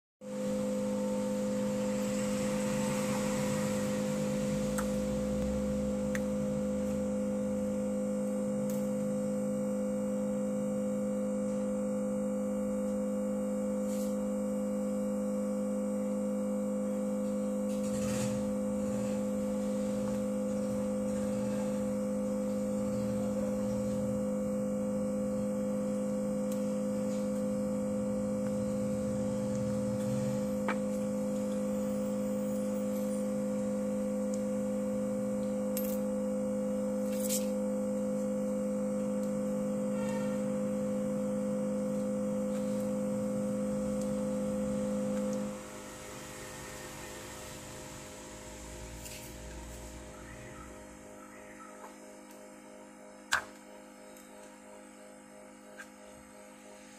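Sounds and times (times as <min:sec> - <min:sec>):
low electrical hum: 0:00.2 - 0:56.9.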